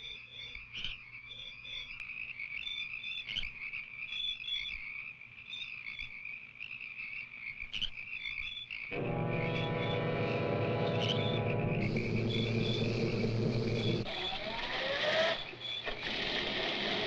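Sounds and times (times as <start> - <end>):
frogs croaking: 0.0 - 16.7.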